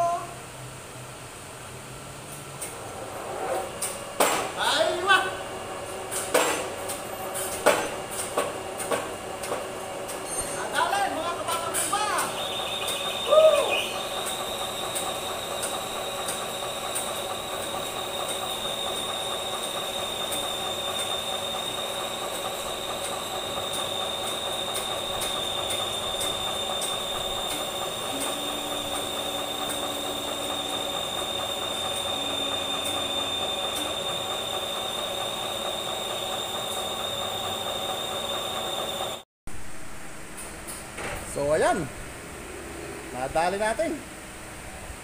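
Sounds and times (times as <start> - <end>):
hydraulic press whining: 2.3 - 39.2.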